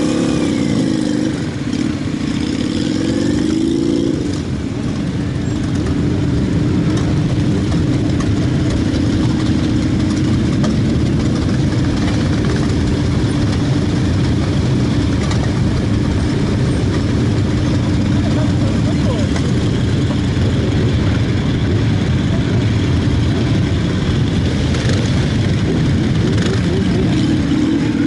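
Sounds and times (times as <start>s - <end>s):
motorcycle engines droning: 0.0s - 28.0s.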